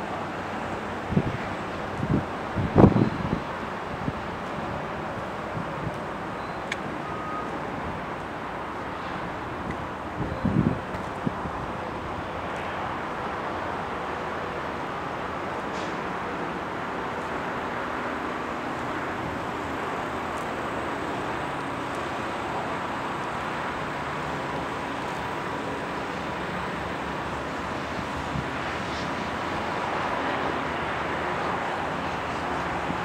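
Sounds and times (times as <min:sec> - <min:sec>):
distant road traffic: 0:00.0 - 0:33.0.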